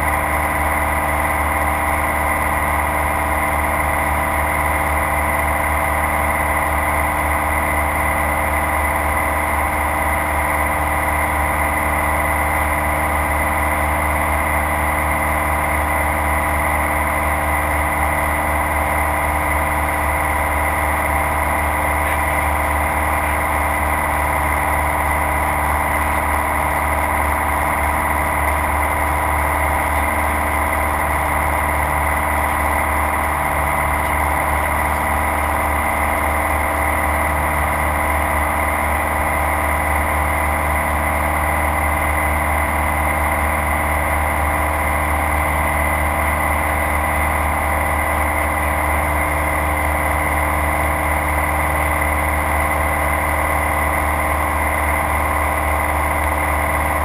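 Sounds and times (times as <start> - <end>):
aircraft engine drone: 0.0 - 57.0.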